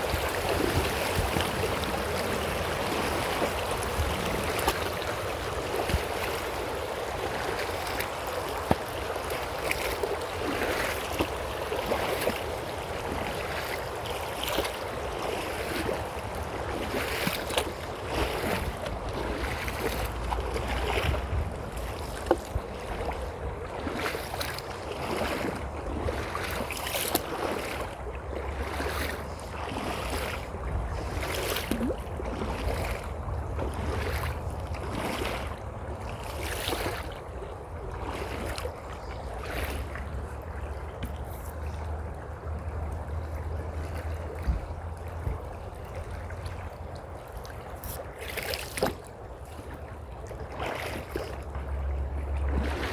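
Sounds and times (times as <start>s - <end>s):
creek water running: 0.0s - 52.9s
wind rumbling on microphone: 0.0s - 52.9s.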